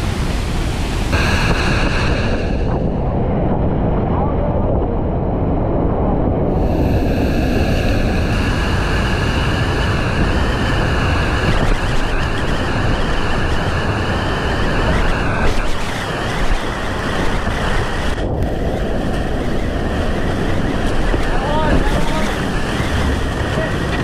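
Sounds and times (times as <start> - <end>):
rushing whitewater roar: 0.0 - 3.3, 6.5 - 24.0
wind buffeting microphone: 0.0 - 24.0.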